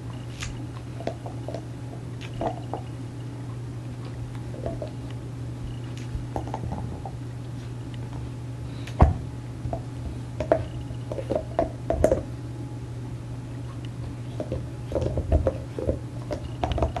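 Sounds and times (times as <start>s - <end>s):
dog gnawing on a bone: 0.0s - 9.0s, 9.7s - 12.3s, 13.7s - 17.0s.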